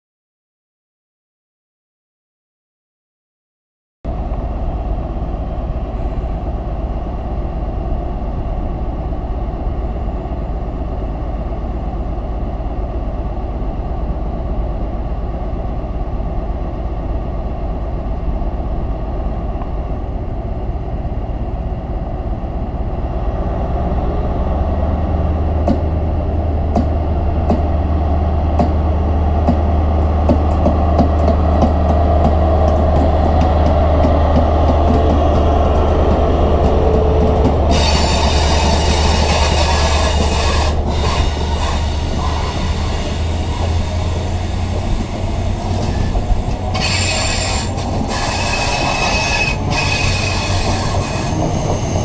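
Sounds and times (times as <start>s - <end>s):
train diesel engine running: 4.1s - 52.0s.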